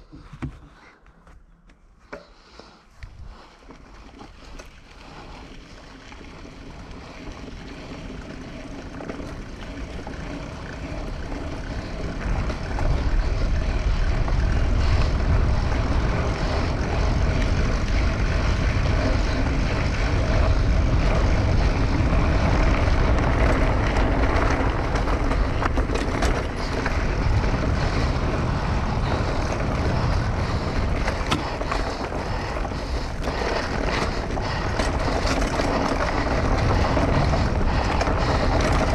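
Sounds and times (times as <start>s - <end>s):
bike rattling over bumps: 2.6s - 38.9s
bike tyres rumbling on dirt: 2.6s - 38.9s
wind buffeting microphone: 6.1s - 38.9s.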